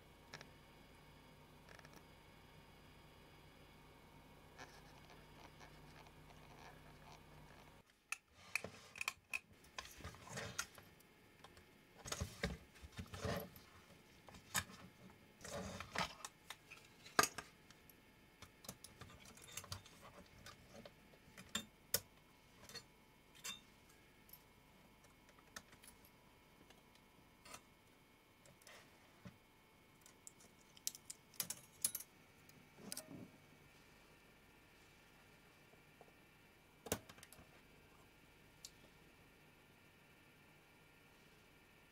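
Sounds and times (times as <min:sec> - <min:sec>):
faint low hum: 0:00.0 - 0:41.9.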